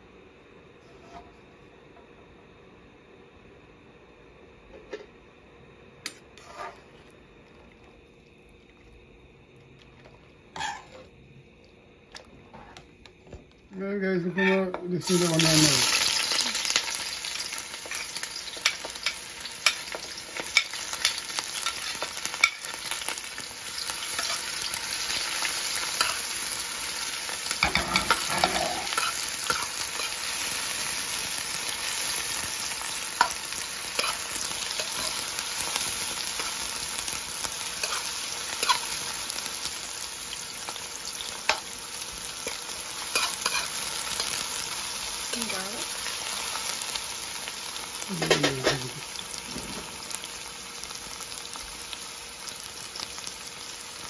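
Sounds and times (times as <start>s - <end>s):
food sizzling in hot oil: 6.0s - 9.2s, 10.3s - 11.2s, 14.0s - 54.0s.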